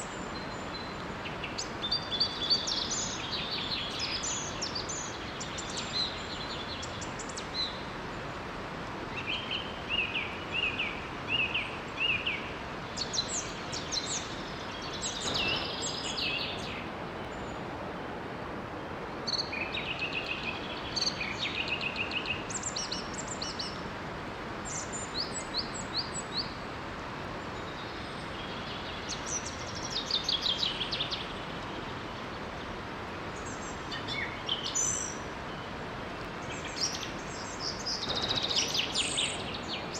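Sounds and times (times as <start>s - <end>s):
songbirds singing: 0.0s - 18.0s, 18.8s - 39.9s
small waterfall rushing: 0.0s - 39.9s.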